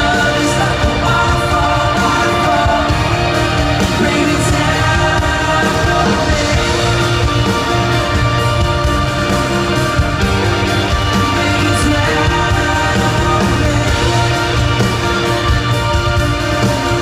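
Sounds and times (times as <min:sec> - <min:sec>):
lead vocal singing: 0:00.0 - 0:17.0
live rock band playing: 0:00.0 - 0:17.0.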